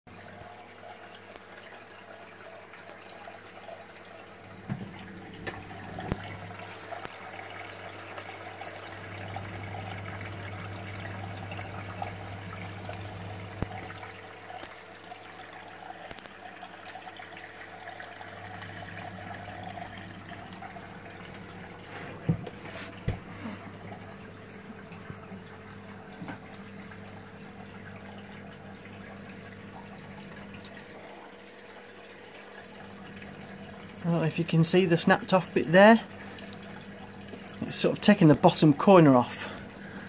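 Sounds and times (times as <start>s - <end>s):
water splashing and trickling: 0.1s - 40.0s.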